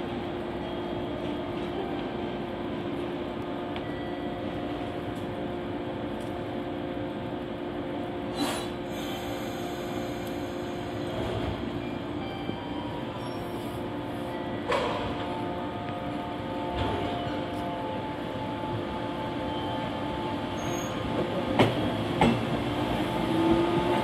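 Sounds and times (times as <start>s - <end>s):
electric train humming: 0.0s - 24.0s.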